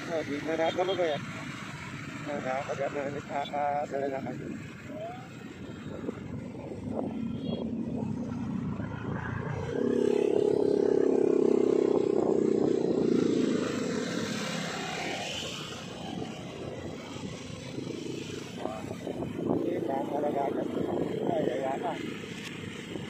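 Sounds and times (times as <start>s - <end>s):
traffic engine and road noise: 0.0s - 23.0s.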